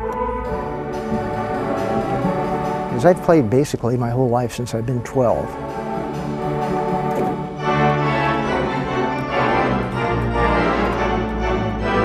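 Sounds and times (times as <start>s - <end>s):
pipe organ chords: 0.0s - 12.0s.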